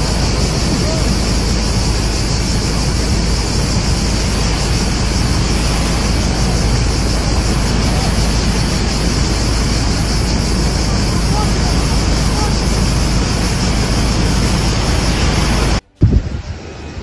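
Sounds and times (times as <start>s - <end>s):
fire roaring: 0.0s - 17.0s
wind on microphone: 0.0s - 17.0s.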